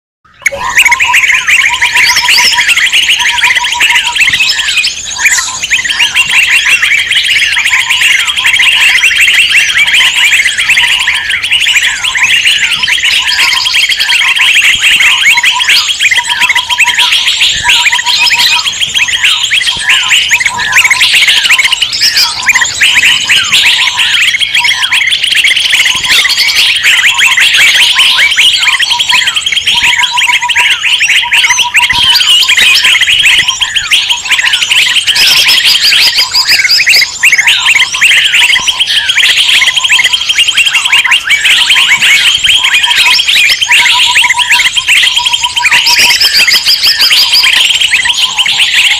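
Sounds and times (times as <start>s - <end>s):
songbirds scolding chatter: 0.3s - 48.9s.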